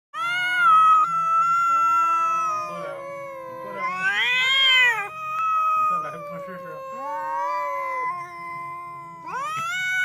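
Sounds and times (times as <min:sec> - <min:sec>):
cats yowling: 0:00.2 - 0:10.0.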